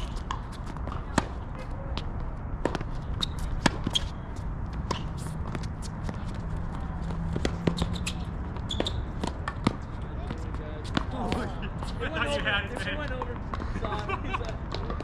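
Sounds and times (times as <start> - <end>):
tennis balls bouncing: 0.0 - 15.0.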